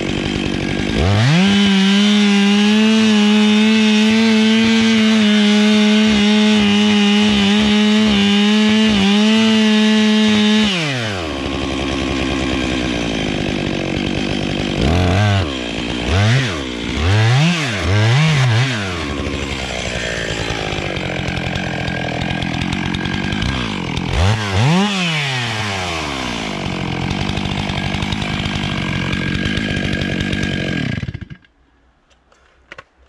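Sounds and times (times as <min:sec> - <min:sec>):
chainsaw revving and idling: 0:00.0 - 0:31.6.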